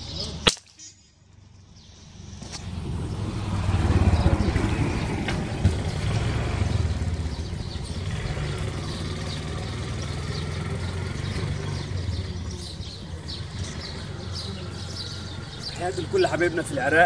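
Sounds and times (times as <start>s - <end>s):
birds chirping faintly: 0.0s - 17.0s
engine humming: 0.0s - 17.0s.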